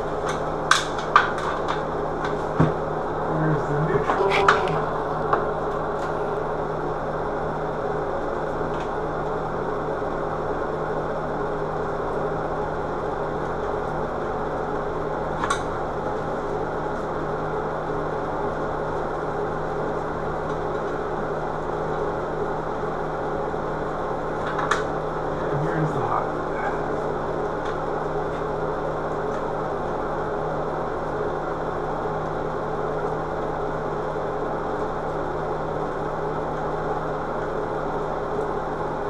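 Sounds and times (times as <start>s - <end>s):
mechanical hum: 0.0s - 39.0s.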